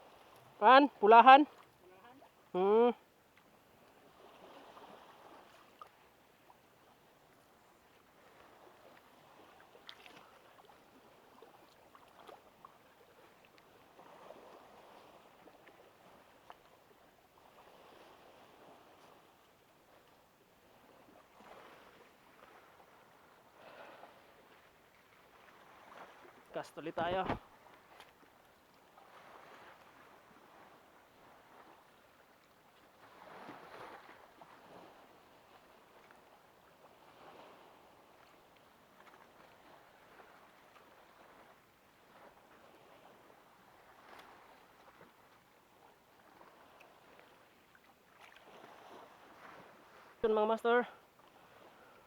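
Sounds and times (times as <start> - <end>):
water lapping at shore: 0.0 - 52.0.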